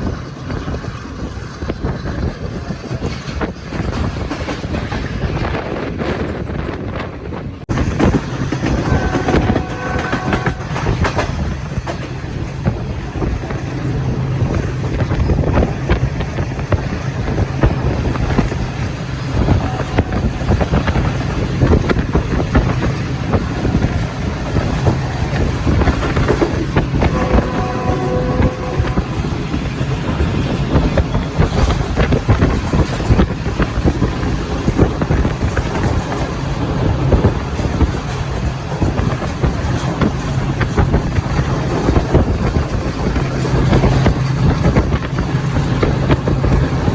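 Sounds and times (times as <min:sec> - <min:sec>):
train rumbling on track: 0:00.0 - 0:46.9
wheels clattering over rail joints: 0:00.0 - 0:46.9.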